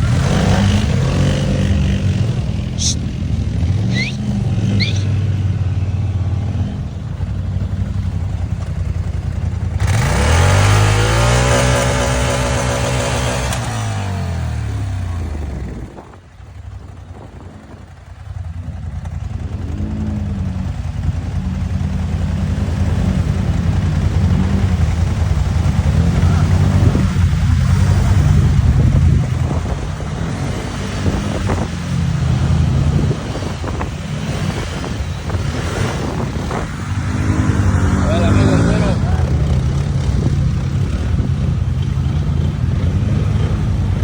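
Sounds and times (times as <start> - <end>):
off-road vehicle engine revving: 0.0 - 16.2, 17.0 - 44.0.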